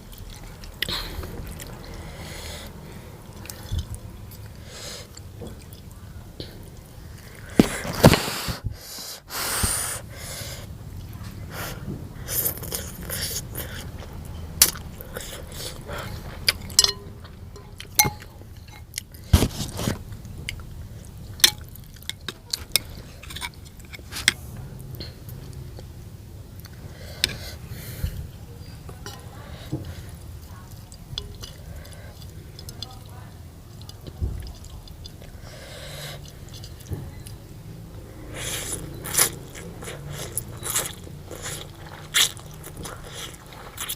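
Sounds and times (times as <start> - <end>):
chewing and wet mouth sounds: 0.0 - 8.2, 10.6 - 25.9, 26.6 - 43.9.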